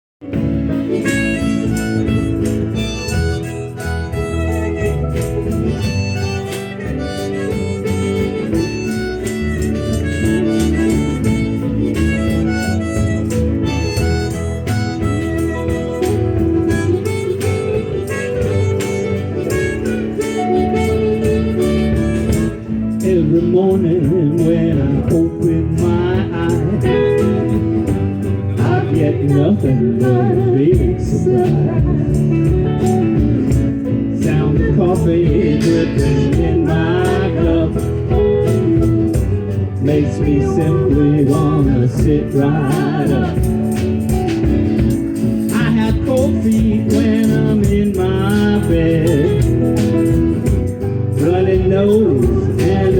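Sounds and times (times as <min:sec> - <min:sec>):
harmonica bending notes: 0:00.2 - 0:52.9
live band music: 0:00.2 - 0:52.9
percussion hits: 0:00.2 - 0:52.9
strummed acoustic guitar: 0:00.2 - 0:52.9
person singing: 0:00.9 - 0:33.5, 0:34.1 - 0:44.5, 0:45.4 - 0:52.9.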